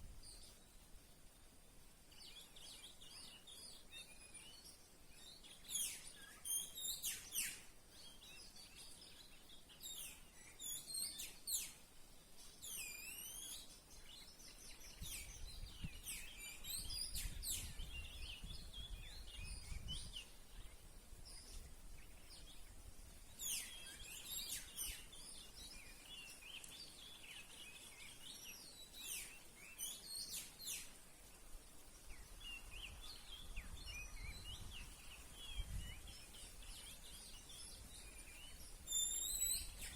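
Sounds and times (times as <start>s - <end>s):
faint background hiss: 0.0s - 39.9s
songbird chirps and whistles: 2.1s - 39.9s.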